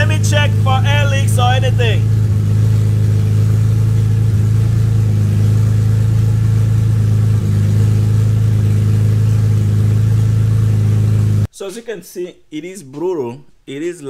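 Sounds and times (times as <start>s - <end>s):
loud car engine idling: 0.0s - 11.5s.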